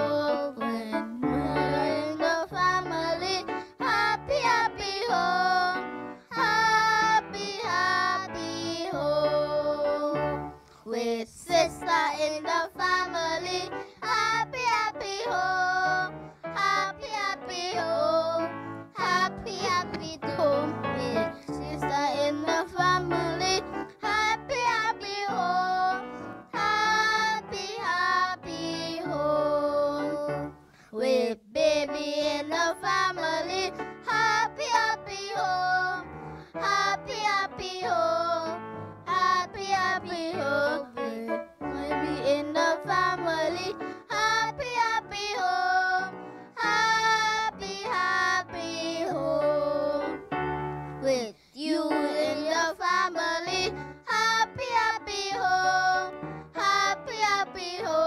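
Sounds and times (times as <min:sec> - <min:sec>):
girls singing into microphones: 0:00.0 - 0:50.3, 0:51.0 - 0:58.0.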